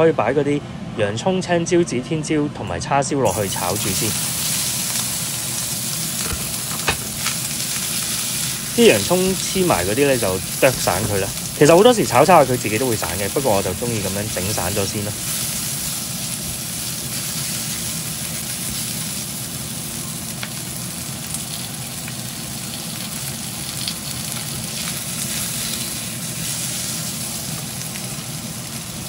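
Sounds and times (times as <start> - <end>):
vegetables sizzling in hot oil: 3.3 - 29.0.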